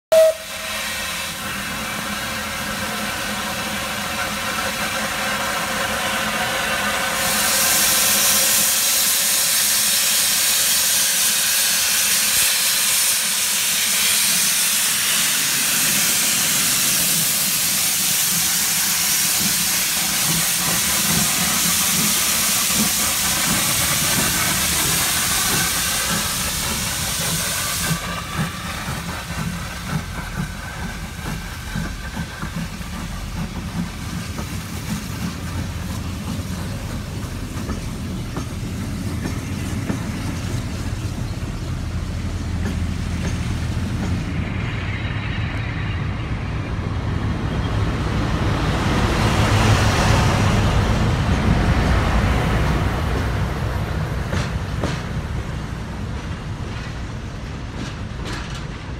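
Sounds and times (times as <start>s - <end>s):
steam locomotive hissing steam: 0.1s - 58.9s.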